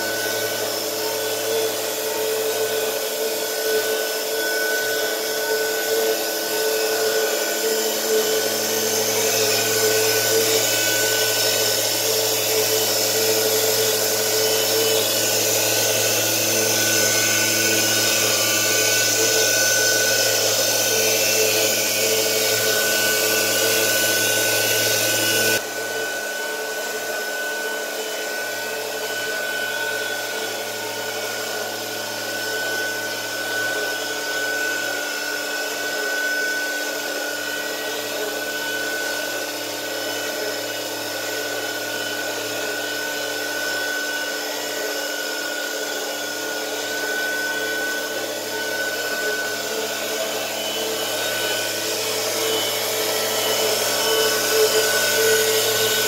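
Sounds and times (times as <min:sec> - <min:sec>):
milling machine cutting metal: 0:00.0 - 0:56.0.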